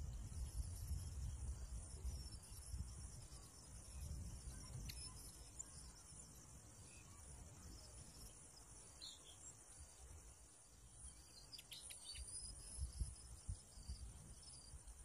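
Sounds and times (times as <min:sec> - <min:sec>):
faint chirps: 0:00.0 - 0:15.0.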